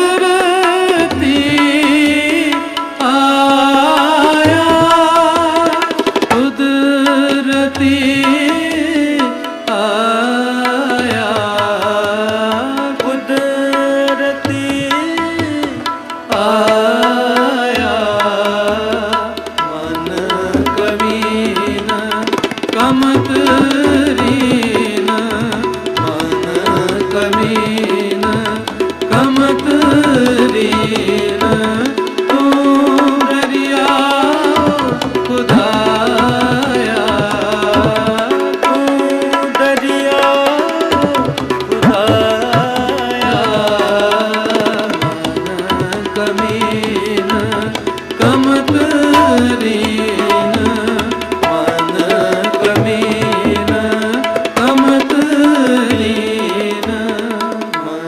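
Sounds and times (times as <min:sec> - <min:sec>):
tabla: 0:00.0 - 0:58.0.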